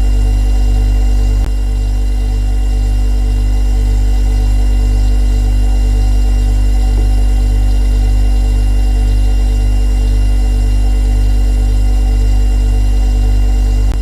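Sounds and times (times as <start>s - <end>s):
refrigerator compressor humming: 0.0s - 14.0s.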